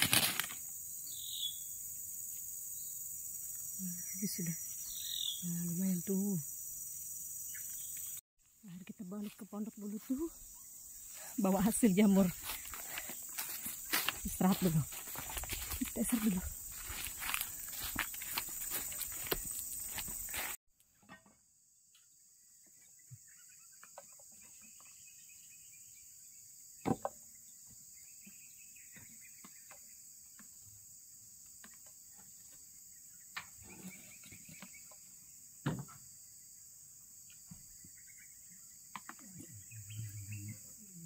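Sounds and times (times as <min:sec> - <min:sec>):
insects droning: 0:00.0 - 0:20.6, 0:21.5 - 0:41.0.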